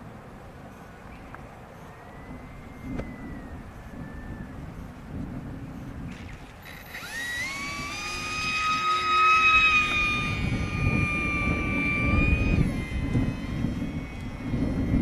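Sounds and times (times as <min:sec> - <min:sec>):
wind rumble on microphone: 0:01.1 - 0:15.0
model airplane motor whining: 0:01.9 - 0:15.0.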